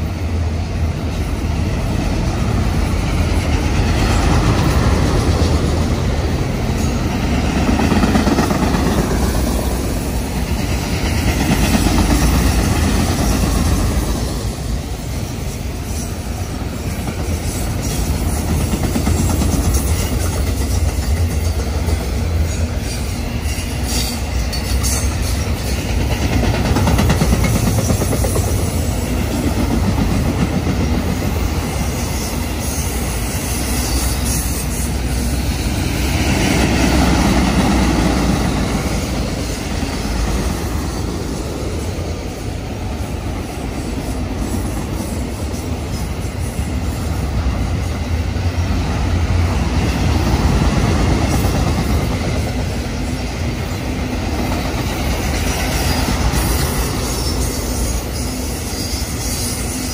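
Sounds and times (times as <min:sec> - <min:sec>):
train rolling past: 0:00.0 - 0:59.9.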